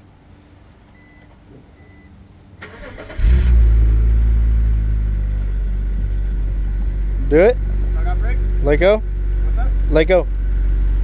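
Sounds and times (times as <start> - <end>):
car engine idling: 0.3 - 11.0.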